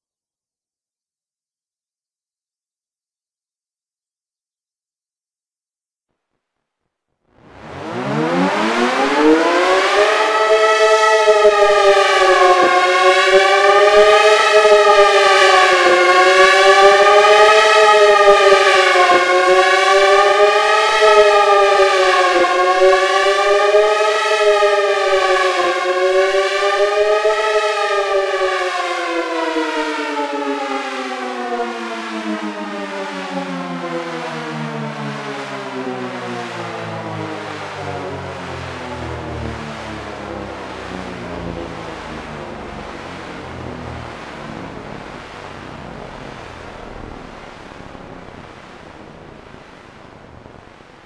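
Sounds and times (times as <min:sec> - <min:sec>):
dual-tone siren: 0:07.4 - 0:51.0.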